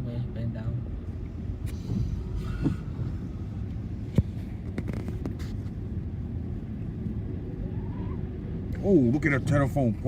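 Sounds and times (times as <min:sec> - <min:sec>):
car rumble: 0:00.0 - 0:10.0.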